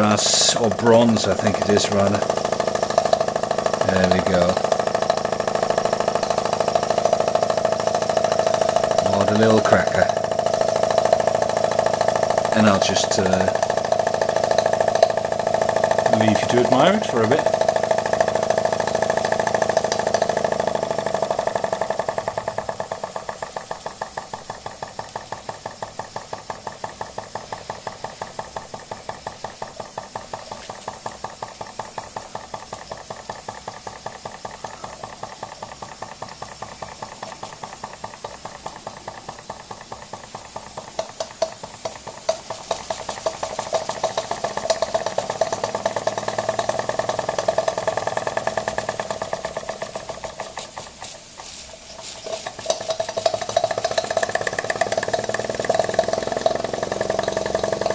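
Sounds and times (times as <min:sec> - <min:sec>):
model steam engine running: 0:00.0 - 0:57.9.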